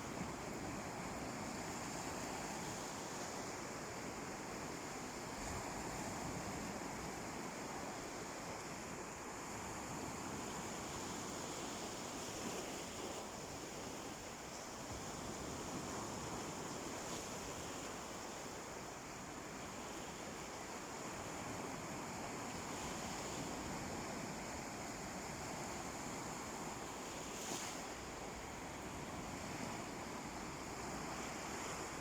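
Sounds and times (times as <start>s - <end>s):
calm sea waves washing on beach: 0.0s - 32.0s.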